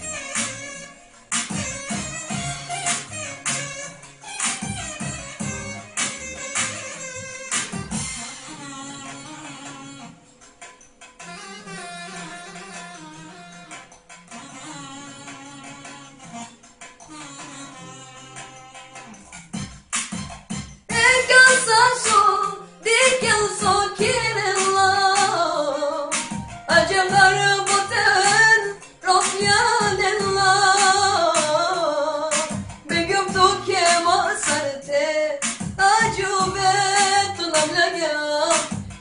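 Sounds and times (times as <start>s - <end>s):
instrumental backing with bass line: 0.0s - 39.0s.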